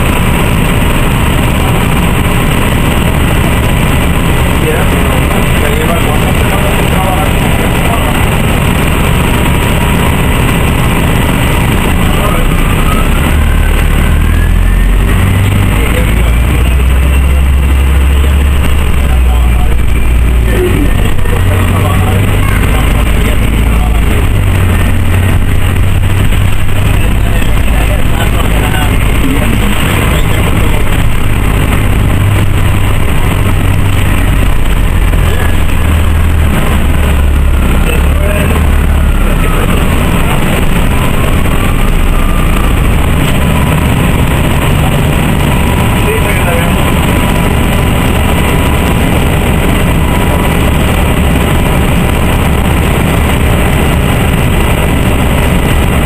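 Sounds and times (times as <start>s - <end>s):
bus engine rumble: 0.0s - 56.0s
faint rising whine: 0.0s - 56.0s
road noise: 0.0s - 56.0s.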